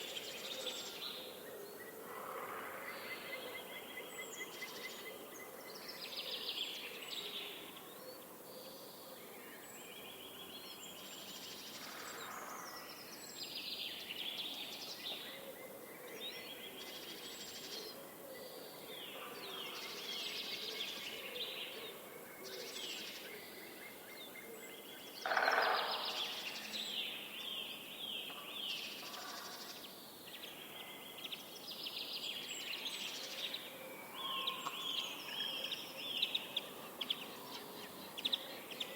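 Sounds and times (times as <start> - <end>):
songbirds singing and calling: 0.0 - 38.9.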